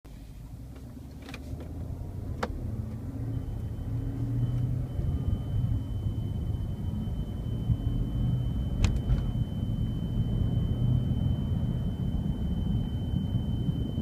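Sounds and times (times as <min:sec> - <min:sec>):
car engine and road rumble: 0:00.1 - 0:14.0
faint high-pitched beeping tone: 0:02.7 - 0:14.0.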